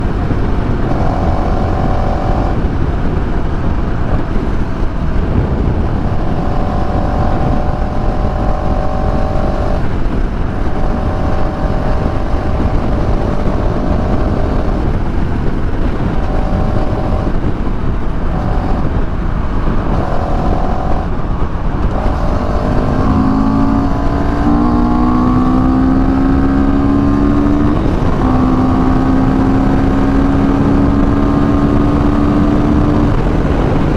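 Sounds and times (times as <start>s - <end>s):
motorcycle engine running: 0.0s - 33.9s
wind rush over microphone: 0.0s - 33.9s.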